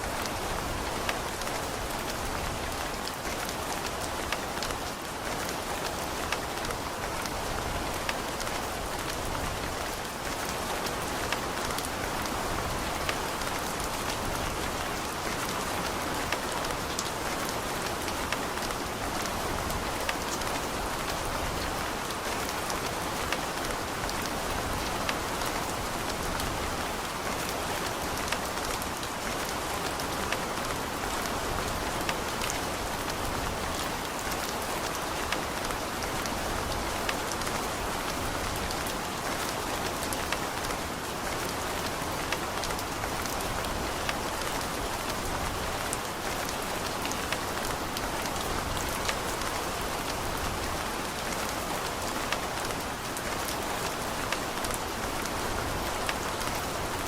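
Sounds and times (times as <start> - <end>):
rain on hard surfaces: 0.0 - 57.0.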